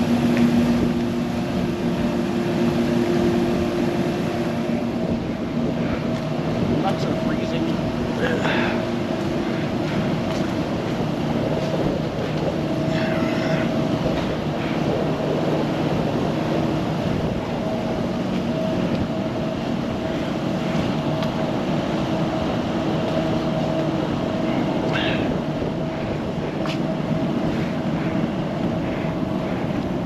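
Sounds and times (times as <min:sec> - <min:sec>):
even rushing noise: 0:00.0 - 0:30.0
heavy machinery drone: 0:00.0 - 0:30.0
humming tones: 0:00.0 - 0:30.0.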